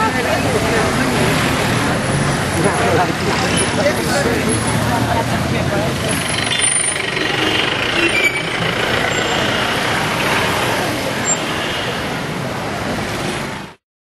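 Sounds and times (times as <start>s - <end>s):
crowd noise: 0.0s - 13.8s
vehicles on street: 0.0s - 13.8s.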